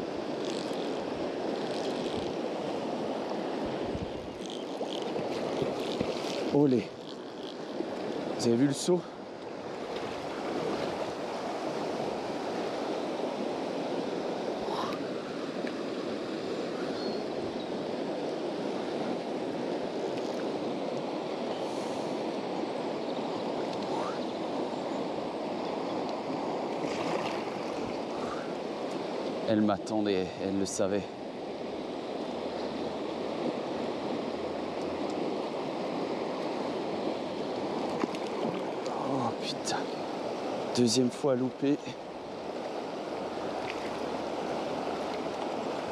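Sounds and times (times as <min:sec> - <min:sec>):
river current rushing: 0:00.0 - 0:45.9.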